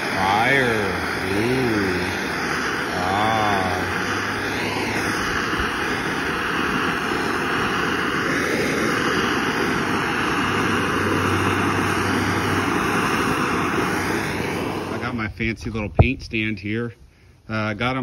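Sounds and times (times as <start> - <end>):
torch flame hissing: 0.0 - 18.0.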